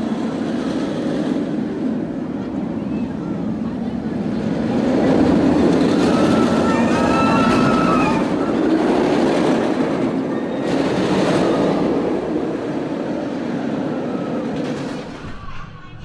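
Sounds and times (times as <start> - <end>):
roller coaster rumbling on steel track: 0.0 - 16.0.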